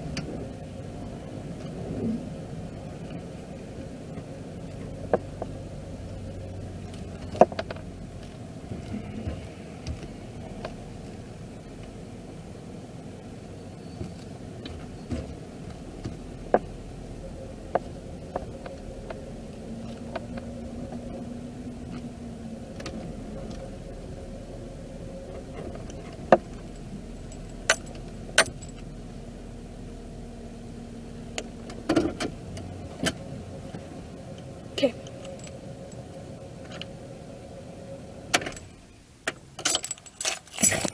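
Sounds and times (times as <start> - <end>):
car rumble inside cabin: 0.0 - 40.9.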